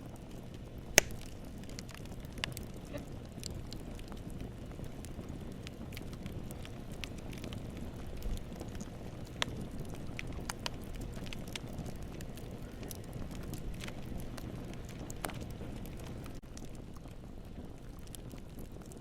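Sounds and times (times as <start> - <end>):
campfire rushing: 0.0 - 19.0
fire crackles and pops: 0.0 - 19.0.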